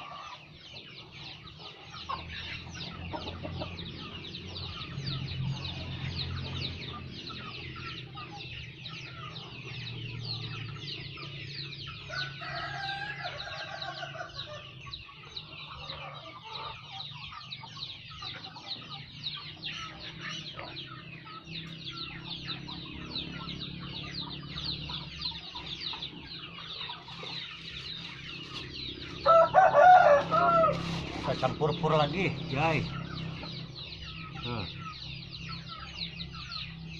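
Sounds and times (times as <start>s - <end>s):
chickens clucking and cheeping: 0.0s - 36.9s.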